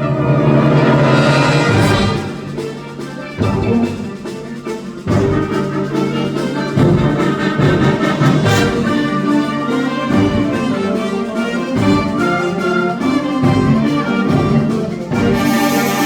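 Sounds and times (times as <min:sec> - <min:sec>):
concert band playing: 0:00.0 - 0:16.0.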